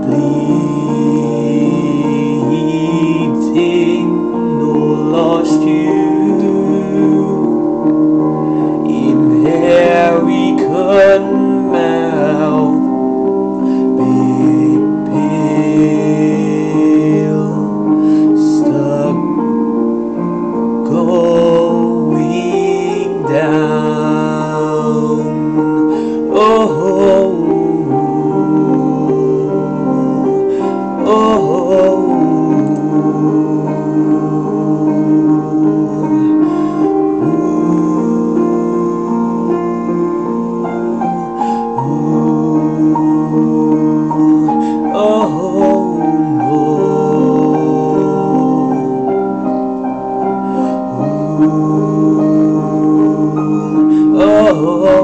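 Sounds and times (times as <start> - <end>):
person singing long wavering notes: 0.0 - 55.0
slow piano chords: 0.0 - 55.0.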